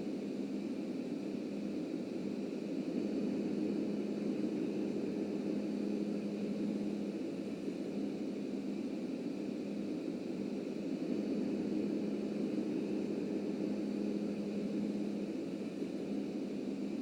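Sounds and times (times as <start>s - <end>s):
subway train rumbling: 2.2s - 8.8s, 9.4s - 17.0s.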